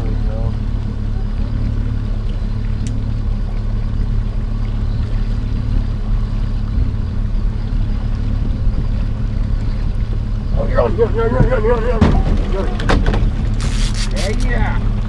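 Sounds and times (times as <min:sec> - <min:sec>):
outboard motor humming: 0:00.0 - 0:15.0
water washing: 0:00.0 - 0:15.0
wind: 0:00.0 - 0:15.0.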